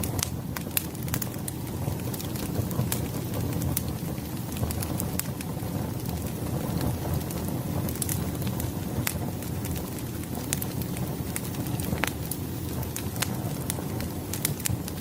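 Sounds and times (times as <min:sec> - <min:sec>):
fire crackling and popping: 0:00.0 - 0:15.0
flames rushing: 0:00.0 - 0:15.0.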